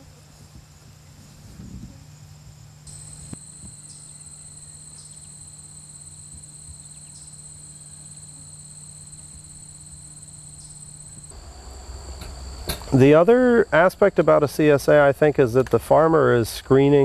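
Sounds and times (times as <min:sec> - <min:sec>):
low steady hum: 0:01.0 - 0:17.0
cricket trilling: 0:02.9 - 0:17.0.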